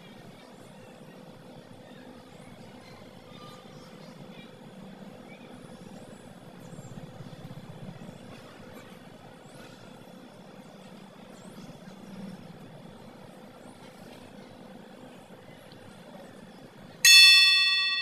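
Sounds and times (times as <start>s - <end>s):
faint constant hum: 0.0s - 18.0s.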